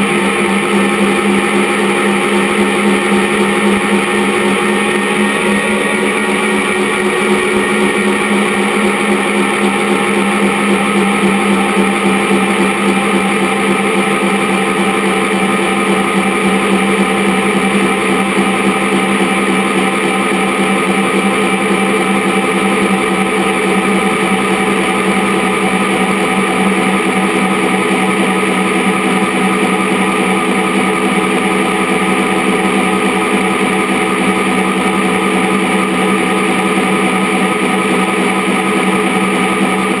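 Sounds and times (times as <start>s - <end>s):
helicopter rotor drone: 0.0s - 40.0s.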